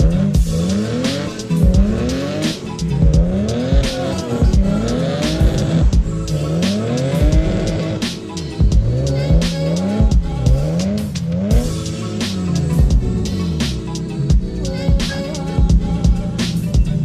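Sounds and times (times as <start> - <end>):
deep bass notes: 0.0 - 17.0
hip-hop beat: 0.0 - 17.0
sliding synth notes: 0.0 - 17.0.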